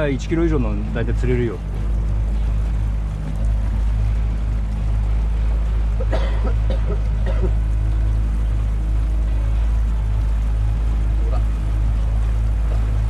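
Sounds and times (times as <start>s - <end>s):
boat engine droning: 0.0s - 13.0s
water noise: 0.0s - 13.0s.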